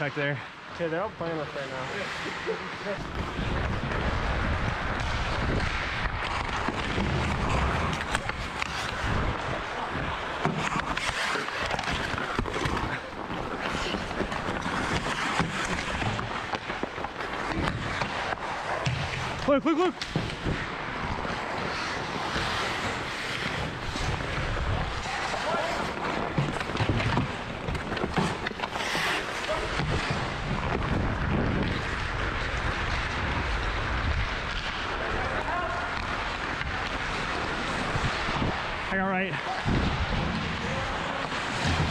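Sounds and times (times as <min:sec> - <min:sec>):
skates scraping on ice: 0:00.0 - 0:41.9
hockey sticks hitting puck: 0:00.8 - 0:41.9.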